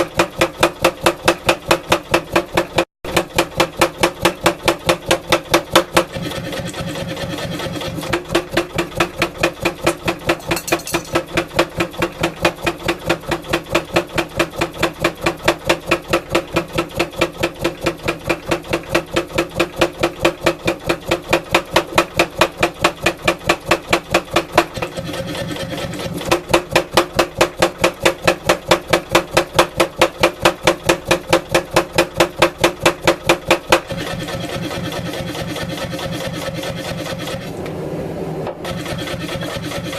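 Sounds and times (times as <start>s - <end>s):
power hammer pounding metal: 0.0s - 37.5s, 38.6s - 39.9s.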